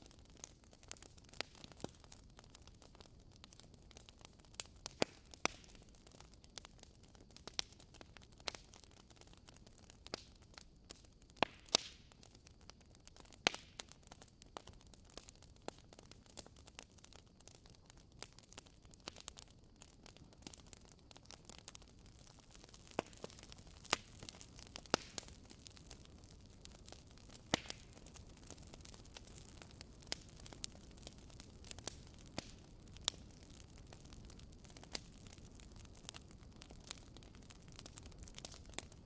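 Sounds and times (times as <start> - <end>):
low steady hiss: 0.0 - 39.0
wood fire crackling: 0.0 - 39.0.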